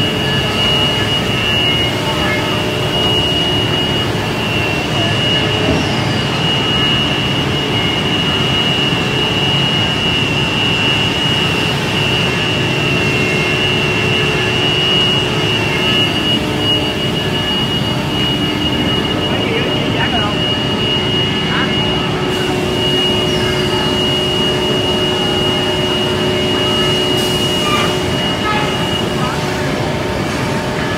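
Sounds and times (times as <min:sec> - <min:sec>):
high whine: 0:00.0 - 0:30.9
woodworking machinery drone: 0:00.0 - 0:30.9.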